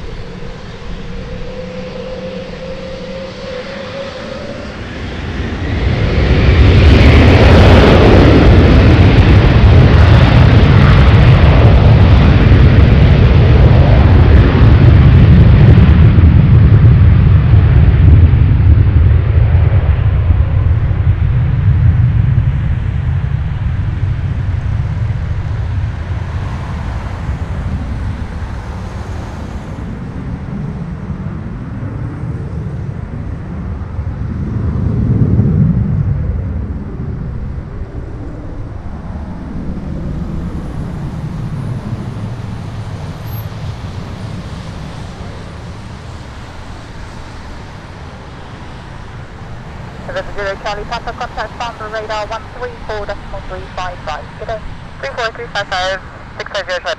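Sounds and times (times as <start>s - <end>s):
jet engines roaring at takeoff: 0.0s - 56.9s.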